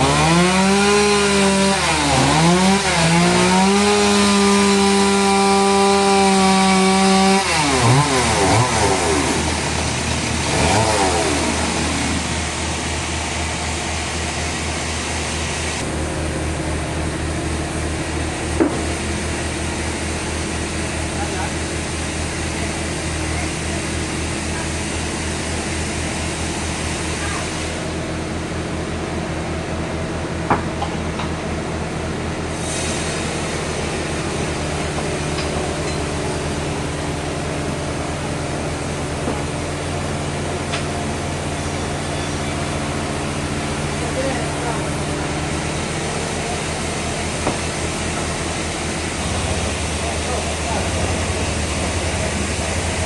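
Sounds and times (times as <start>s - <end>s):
sawmill machinery humming: 0.0s - 53.0s.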